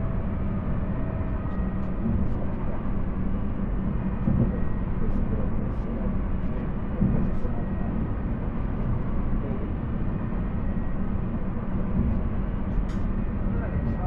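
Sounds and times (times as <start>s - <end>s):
low train rumble: 0.0s - 14.0s.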